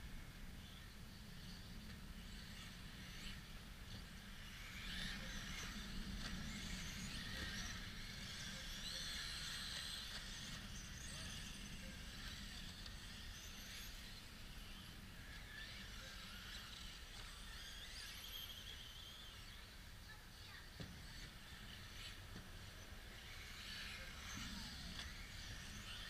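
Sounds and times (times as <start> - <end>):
model car motors whining: 0.2 - 26.0.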